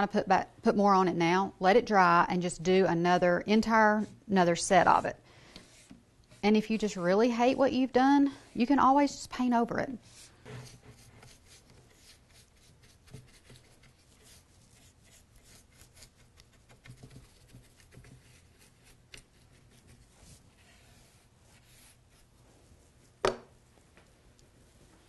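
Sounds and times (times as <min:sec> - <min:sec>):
brush rubbing strokes: 0:02.9 - 0:23.1.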